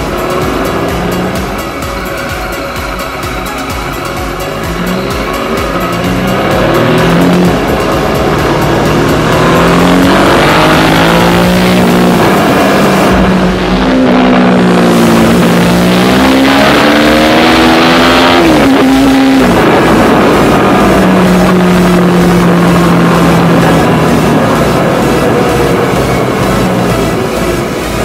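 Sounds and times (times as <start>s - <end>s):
motorcycle engine revving: 0.0s - 28.0s
road and wind noise: 0.0s - 28.0s.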